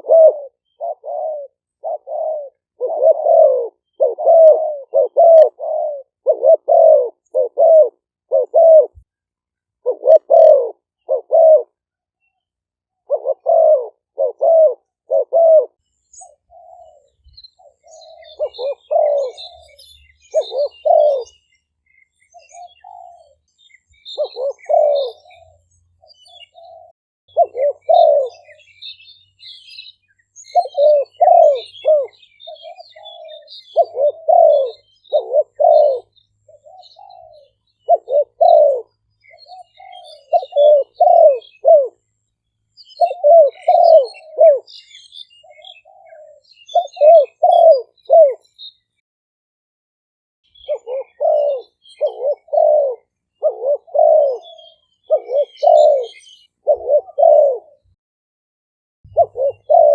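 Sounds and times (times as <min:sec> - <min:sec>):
dove cooing: 0:00.0 - 0:09.1, 0:09.8 - 0:21.5, 0:22.1 - 0:29.8, 0:30.4 - 0:42.1, 0:42.8 - 0:48.6, 0:50.6 - 0:58.0, 0:59.1 - 0:59.9
small birds chirping: 0:00.0 - 0:49.0, 0:50.5 - 0:58.0, 0:59.0 - 0:59.9.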